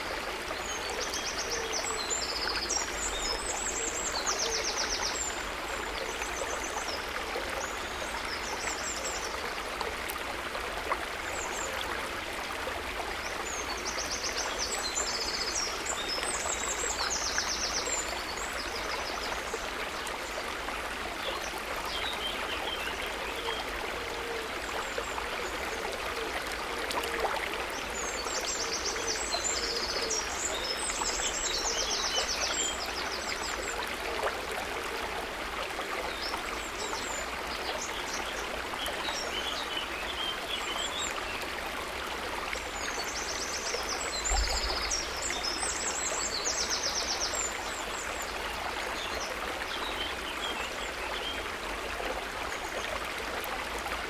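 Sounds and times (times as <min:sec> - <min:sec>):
river water running: 0:00.0 - 0:54.0.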